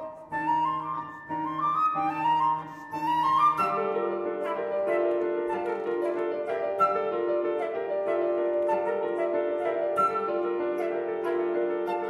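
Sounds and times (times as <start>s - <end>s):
flute runs and held notes: 0.0s - 12.0s
piano chords: 0.0s - 12.0s.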